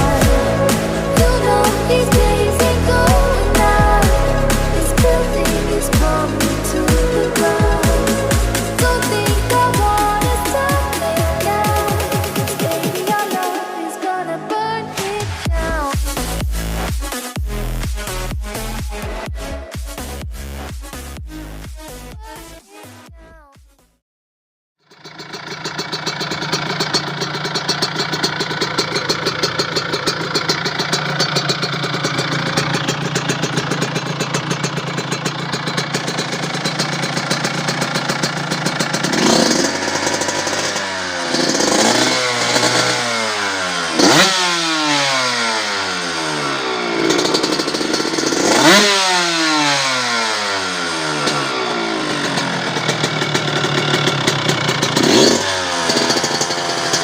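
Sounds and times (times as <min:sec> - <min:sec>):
two-stroke engine revving: 0:00.0 - 0:23.1, 0:24.8 - 0:57.0.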